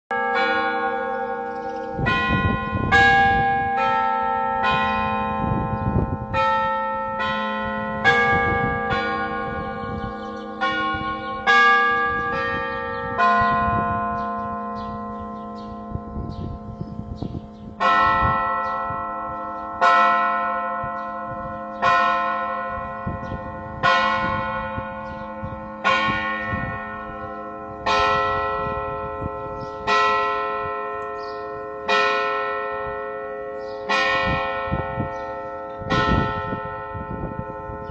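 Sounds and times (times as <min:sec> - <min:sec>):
church bells ringing: 0:00.1 - 0:37.9.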